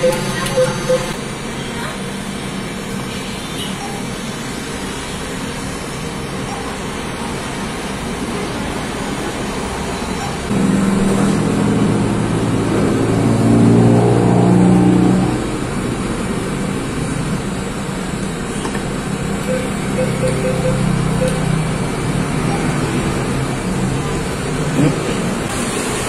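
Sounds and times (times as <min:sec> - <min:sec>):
vehicle engine running: 0:00.0 - 0:25.6
steady background noise: 0:00.0 - 0:26.0.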